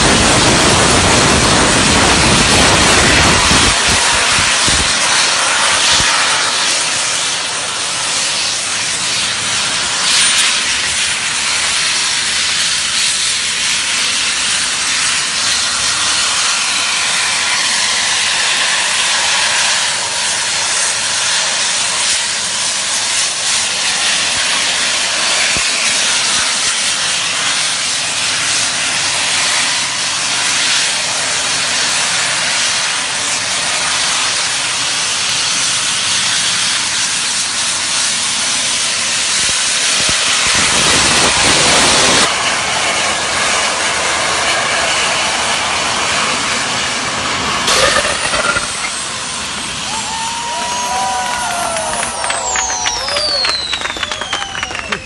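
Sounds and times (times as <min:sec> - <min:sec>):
jet turbines rushing hiss: 0:00.0 - 0:55.0.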